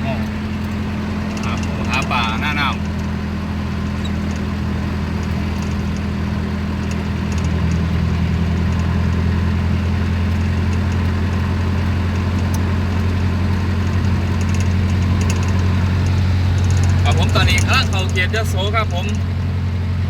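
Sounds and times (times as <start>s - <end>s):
car engine droning: 0.0s - 20.0s
road noise: 0.0s - 20.0s.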